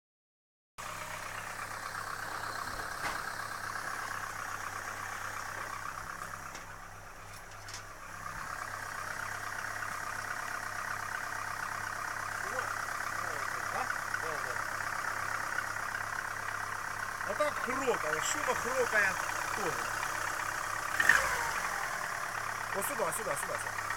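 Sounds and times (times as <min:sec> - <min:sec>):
car engine idling with knocking: 0:00.8 - 0:23.9.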